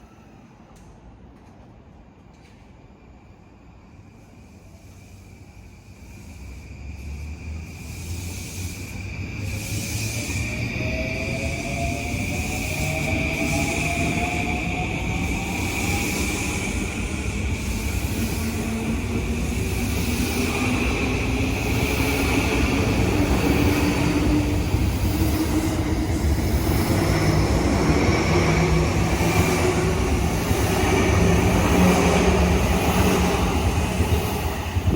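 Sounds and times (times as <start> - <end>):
wheels rumbling on rail: 6.0 - 34.9.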